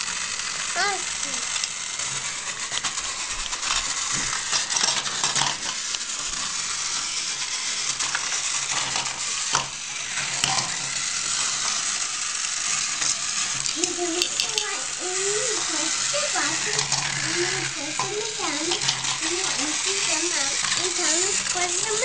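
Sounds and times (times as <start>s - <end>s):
toy train rattling on plastic track: 0.0s - 22.0s.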